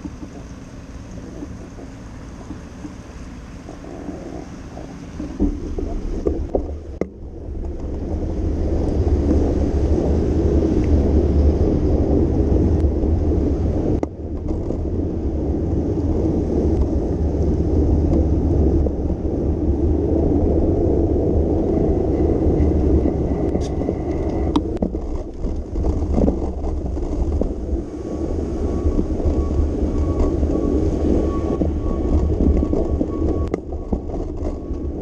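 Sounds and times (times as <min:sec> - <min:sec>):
tyre noise on wet road: 0:00.0 - 0:35.0
wind rushing over microphone: 0:00.0 - 0:35.0.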